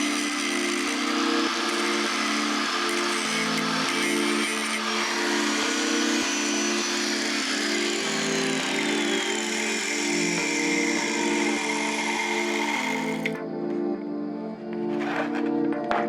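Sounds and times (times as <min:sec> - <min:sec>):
power tool whining: 0:00.0 - 0:13.4
background music: 0:00.0 - 0:16.0.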